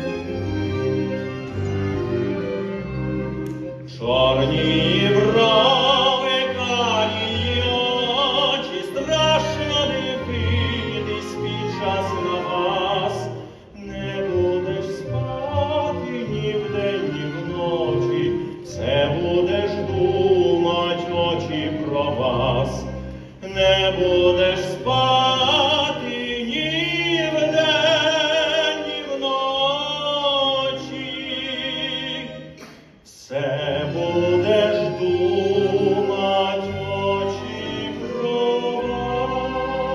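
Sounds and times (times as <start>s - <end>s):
instrumental accompaniment: 0.0s - 39.9s
man singing operatically: 3.9s - 32.5s, 33.1s - 39.9s.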